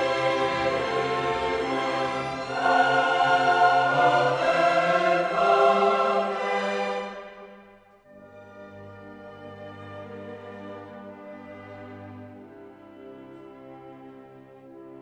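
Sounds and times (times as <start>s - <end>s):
choral music with orchestra: 0.0s - 15.0s.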